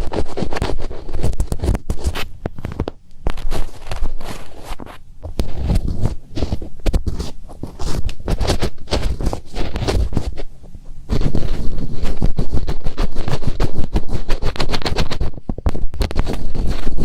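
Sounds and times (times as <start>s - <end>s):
fingertips scratching microphone: 0.0s - 17.0s.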